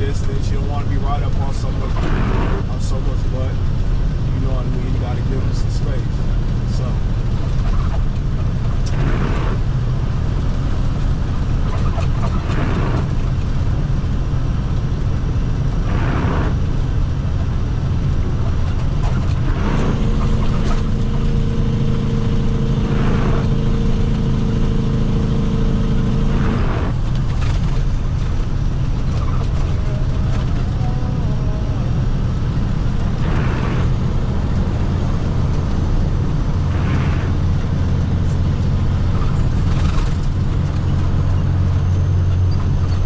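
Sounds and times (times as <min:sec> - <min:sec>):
steady hum: 0:00.0 - 0:42.8
truck diesel engine rumble: 0:00.0 - 0:43.0.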